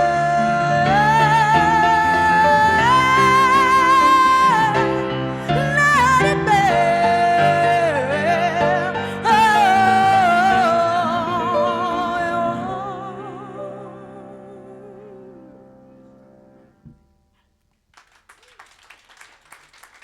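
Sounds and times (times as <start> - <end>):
person singing with vibrato: 0.0 - 16.1.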